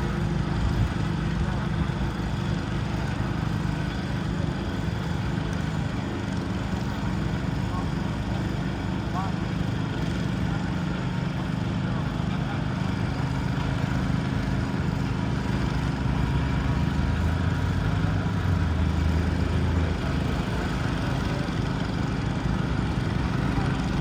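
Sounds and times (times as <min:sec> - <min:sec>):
garden tractor engine running: 0:00.0 - 0:24.0.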